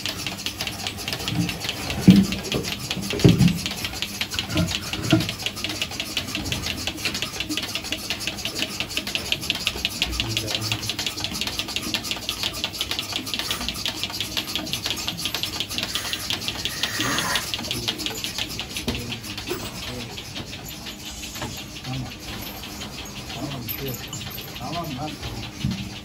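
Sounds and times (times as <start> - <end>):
rapid mechanical clicking: 0.0 - 26.0.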